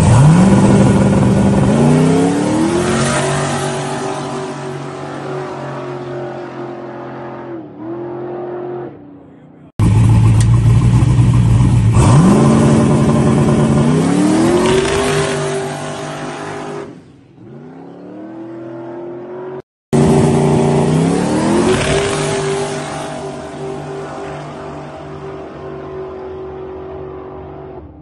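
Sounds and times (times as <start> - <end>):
drag racing car engine revving: 0.0 - 9.2, 9.8 - 18.5, 20.0 - 28.0.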